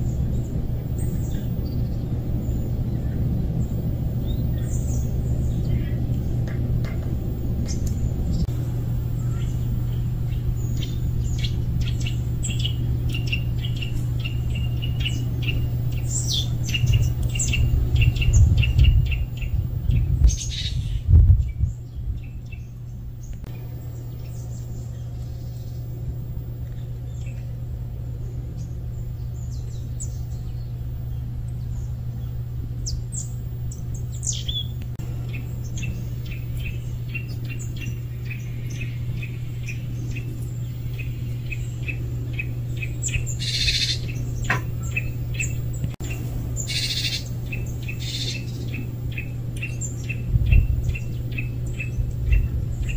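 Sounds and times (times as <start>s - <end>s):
small birds chirping: 0.0s - 52.9s
steady low rumble: 0.0s - 52.9s.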